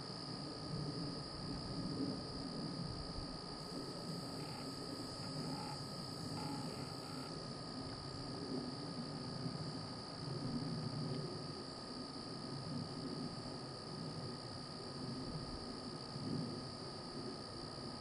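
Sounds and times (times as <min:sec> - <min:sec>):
crickets droning: 0:00.0 - 0:18.0.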